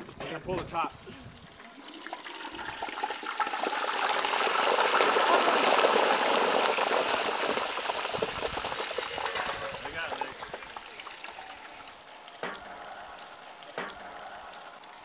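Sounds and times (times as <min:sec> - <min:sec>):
hot oil sizzling and bubbling: 0:00.0 - 0:15.0.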